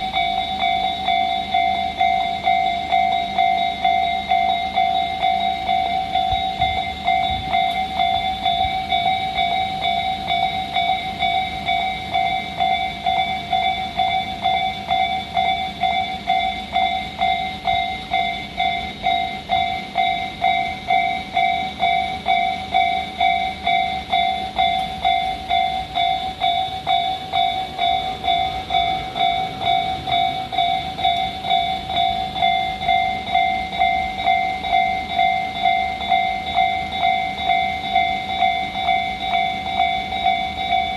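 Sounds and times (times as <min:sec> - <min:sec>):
diesel railcar rumbling: 0:00.0 - 0:40.9
level crossing warning bells: 0:00.0 - 0:40.9.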